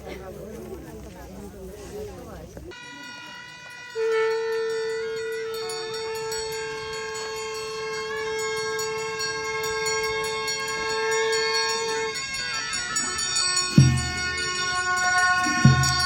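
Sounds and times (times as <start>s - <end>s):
wind horn long steady note: 2.6s - 16.0s
higher horn notes: 2.7s - 16.0s.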